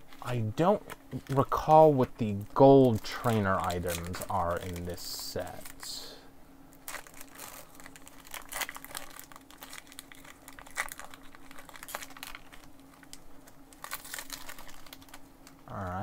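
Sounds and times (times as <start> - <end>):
foil wrapper crinkling: 0.0 - 15.7
faint steady hum: 0.0 - 16.0.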